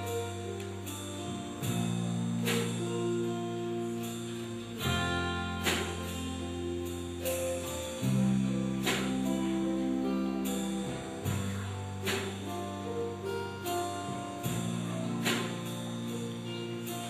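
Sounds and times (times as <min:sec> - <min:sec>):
acoustic guitar chords: 0:00.0 - 0:17.0
cymbal hits: 0:00.0 - 0:17.0
sustained low notes: 0:00.0 - 0:17.0.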